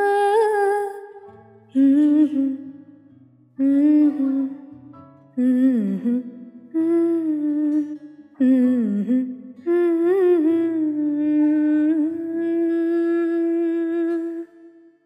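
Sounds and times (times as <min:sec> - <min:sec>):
person humming a slow melody: 0:00.0 - 0:02.7, 0:03.6 - 0:04.8, 0:05.4 - 0:14.8.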